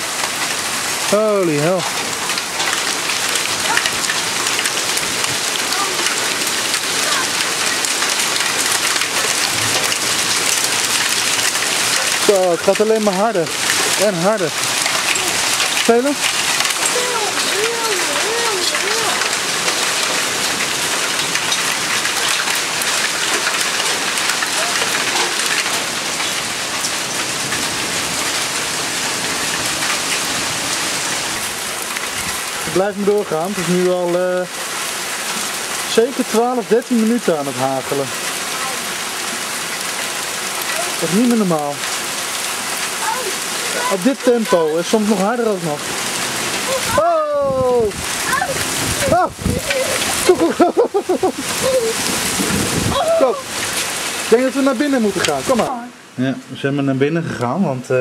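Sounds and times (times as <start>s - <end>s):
hail and rain pelting roofs: 0.0s - 56.6s.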